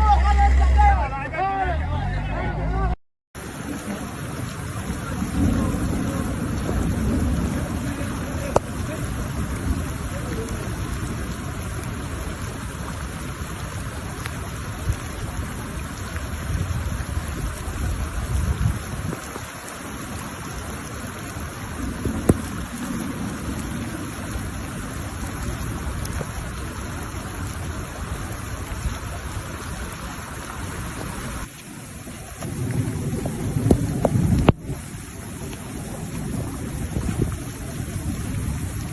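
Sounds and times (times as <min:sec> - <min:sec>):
floodwater rushing: 0:00.0 - 0:38.9
wind buffeting microphone: 0:03.5 - 0:38.9.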